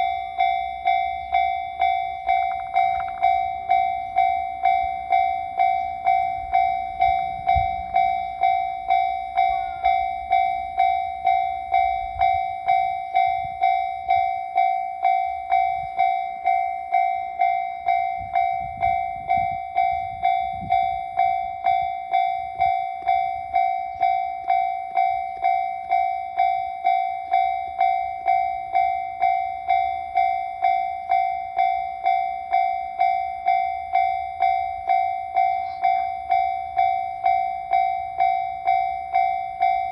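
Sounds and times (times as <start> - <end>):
level-crossing warning bell ringing: 0.0 - 39.9.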